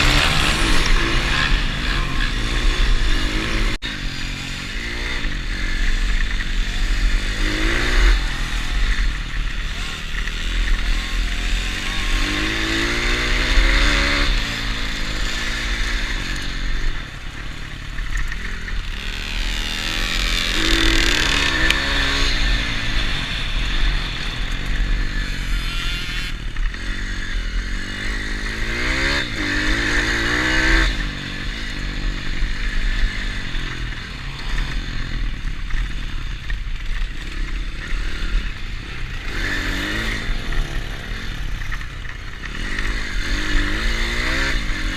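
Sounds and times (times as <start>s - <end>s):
pit bike engine revving: 0.0s - 44.9s.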